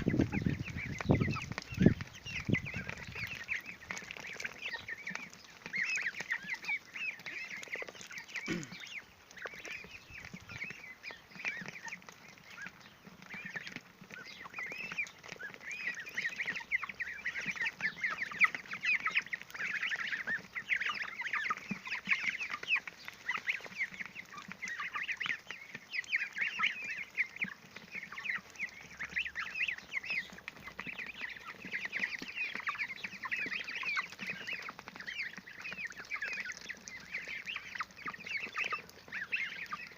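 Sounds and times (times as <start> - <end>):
chicks and ducklings cheeping: 0.0 - 39.9.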